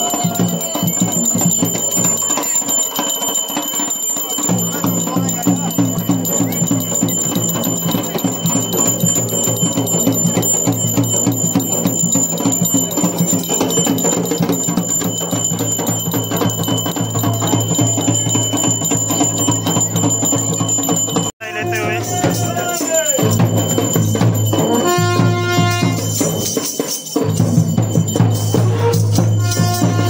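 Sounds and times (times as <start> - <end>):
music with fast beat: 0.0 - 30.0.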